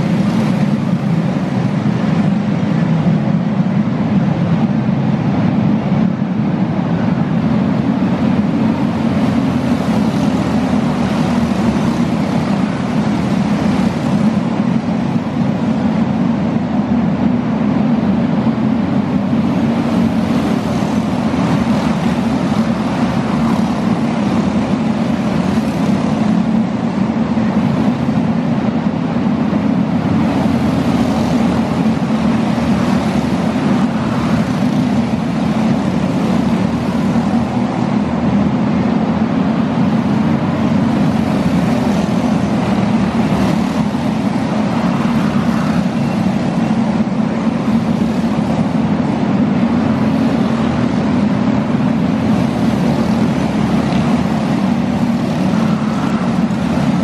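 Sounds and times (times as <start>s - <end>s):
kart engine droning: 0.0s - 57.0s.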